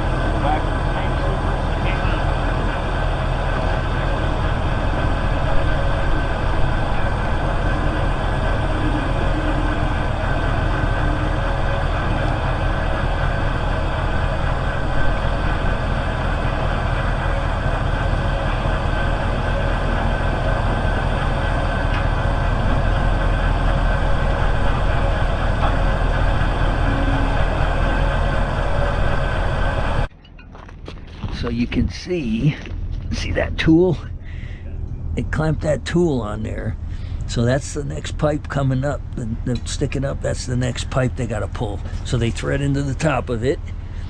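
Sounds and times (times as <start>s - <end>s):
hoist engine running: 0.0s - 30.1s, 32.2s - 44.0s.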